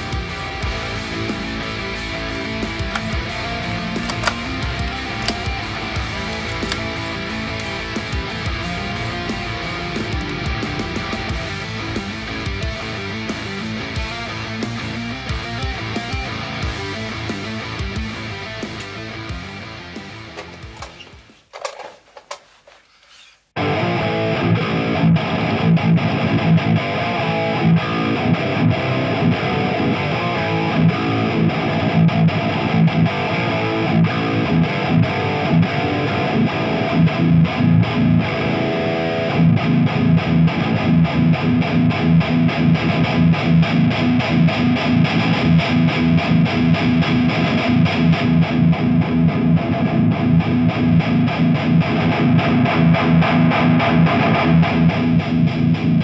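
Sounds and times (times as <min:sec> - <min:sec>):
distorted electric guitar riffing: 0:00.0 - 0:21.4, 0:23.6 - 0:56.0.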